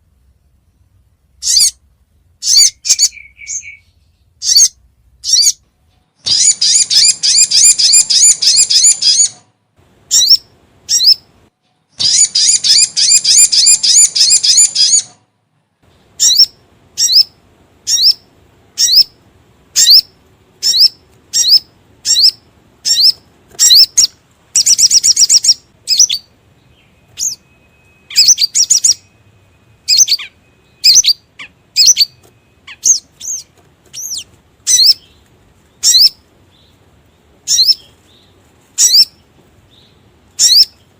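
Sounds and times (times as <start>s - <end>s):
sharp down-slurred bird chirps: 0.6s - 9.5s, 10.1s - 11.3s, 11.9s - 15.2s, 15.8s - 40.9s
bird trills: 1.4s - 1.8s, 2.4s - 5.6s, 6.2s - 9.4s, 10.1s - 11.2s, 11.9s - 15.2s, 16.2s - 19.2s, 19.8s - 35.2s, 35.8s - 36.8s, 37.4s - 40.9s.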